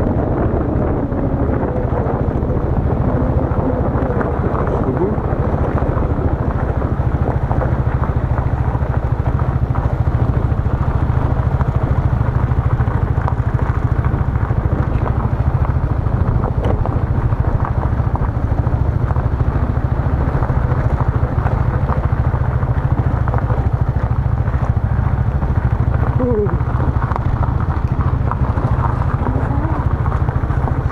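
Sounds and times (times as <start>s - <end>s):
motorbike engine rumbling: 0.0s - 30.9s.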